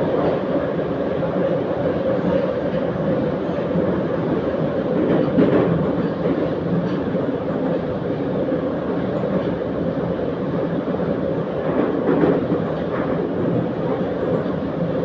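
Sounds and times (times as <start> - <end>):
metro car wheels rumbling on track: 0.0 - 15.0.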